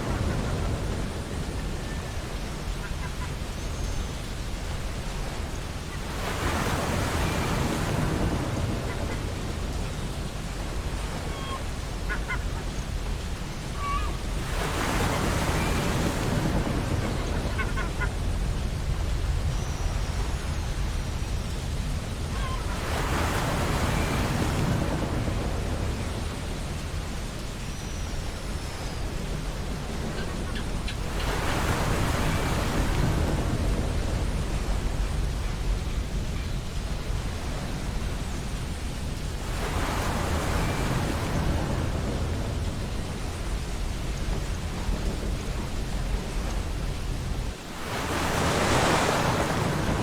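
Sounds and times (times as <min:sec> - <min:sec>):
ocean surf breaking: 0:00.0 - 0:03.5, 0:04.6 - 0:21.0, 0:21.6 - 0:27.2, 0:28.8 - 0:50.0.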